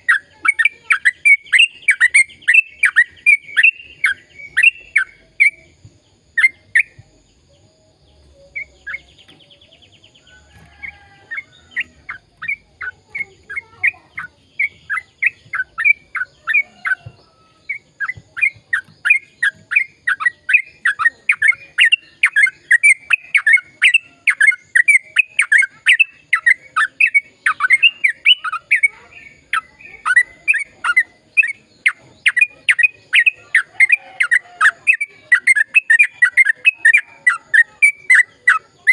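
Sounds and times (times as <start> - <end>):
bird singing rapid sharp notes: 0.0 - 38.9.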